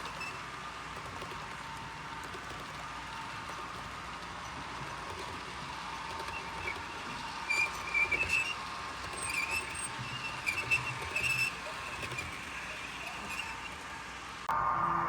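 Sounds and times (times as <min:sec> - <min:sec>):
high squeaks: 0:00.0 - 0:14.5
model train hum: 0:00.0 - 0:15.0.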